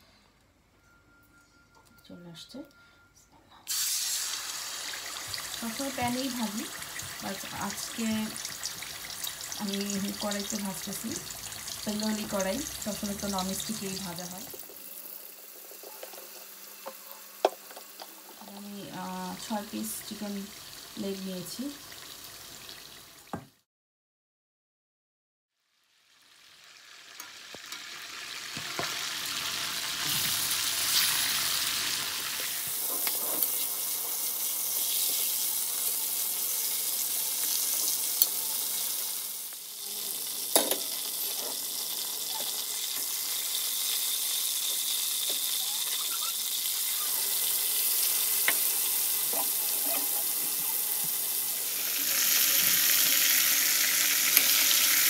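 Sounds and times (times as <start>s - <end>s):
chicken sizzling in oil: 3.7s - 23.5s, 25.6s - 55.0s.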